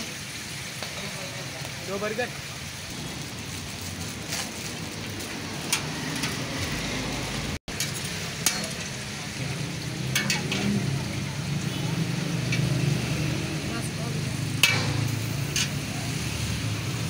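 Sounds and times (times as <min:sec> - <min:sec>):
food sizzling on griddle: 0:00.0 - 0:17.0.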